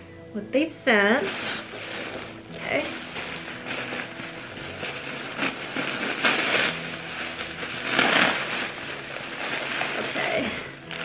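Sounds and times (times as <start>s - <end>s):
packaging crinkling and rustling: 1.2s - 11.0s
packaging crunching: 1.3s - 11.0s.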